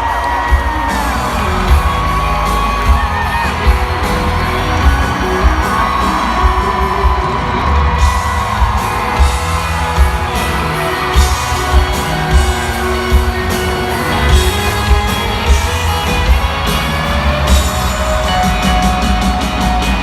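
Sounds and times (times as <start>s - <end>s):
crowd whooping: 0.0s - 20.0s
live country band: 0.0s - 20.0s.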